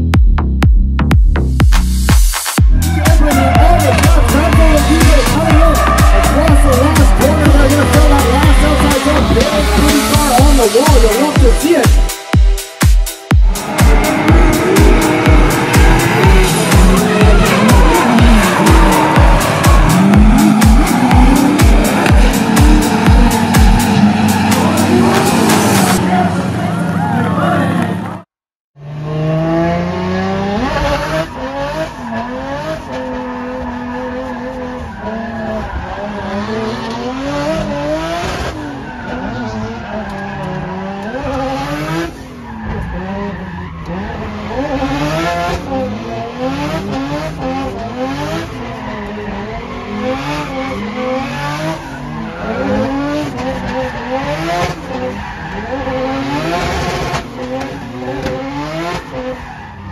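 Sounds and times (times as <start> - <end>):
car engine revving: 1.4 - 11.8, 13.4 - 59.9
tires squealing: 2.6 - 11.8, 13.5 - 28.2, 29.0 - 59.9.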